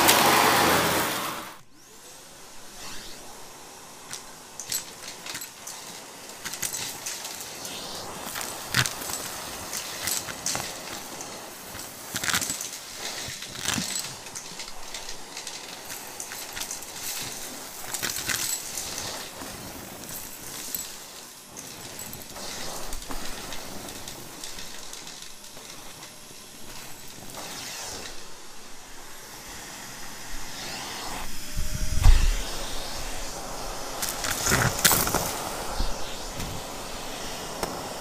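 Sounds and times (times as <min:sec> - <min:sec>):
debris clicking up vacuum hose: 0:00.0 - 0:31.3, 0:32.0 - 0:38.0
vacuum cleaner airy hiss: 0:00.0 - 0:38.0.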